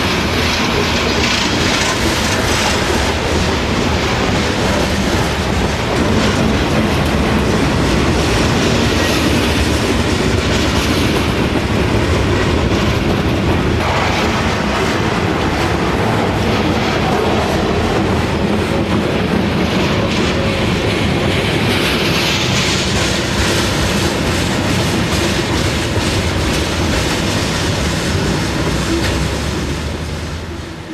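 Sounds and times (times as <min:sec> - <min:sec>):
freight train wheels clicking: 0:00.0 - 0:30.9.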